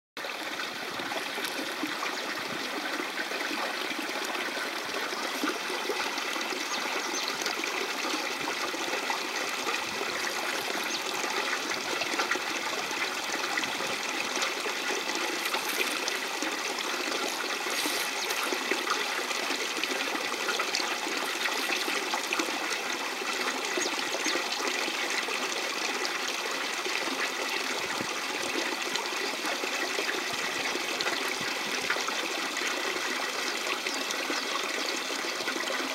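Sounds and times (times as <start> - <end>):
trickling stream: 0.2 - 35.9.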